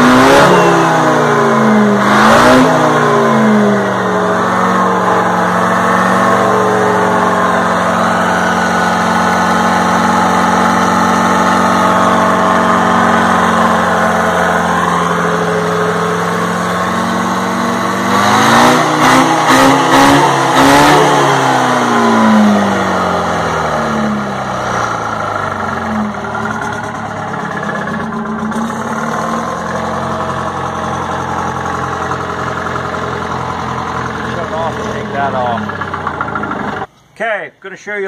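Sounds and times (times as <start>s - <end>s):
diesel engine idling and revving: 0.0s - 37.0s.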